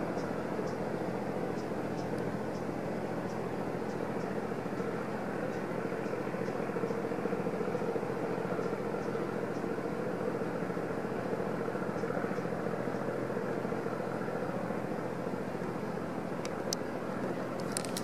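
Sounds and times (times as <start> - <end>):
low mechanical drone: 0.0 - 18.0.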